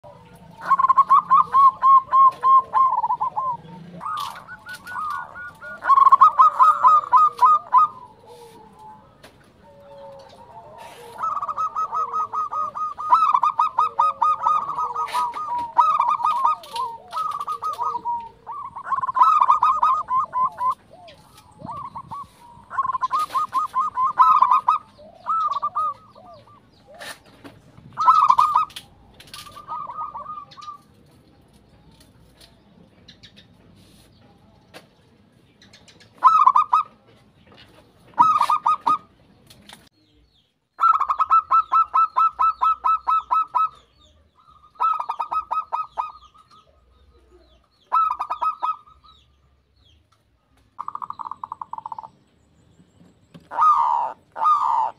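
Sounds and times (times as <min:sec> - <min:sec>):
doves cooing: 0:00.0 - 0:33.3, 0:35.8 - 0:39.2, 0:40.8 - 0:49.4, 0:50.8 - 0:52.4, 0:53.0 - 0:54.9.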